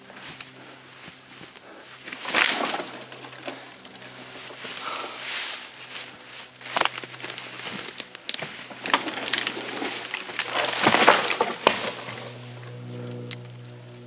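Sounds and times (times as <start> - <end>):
dry brush rustling and crunching: 0.0 - 14.0
dead branches snapping: 0.2 - 14.0.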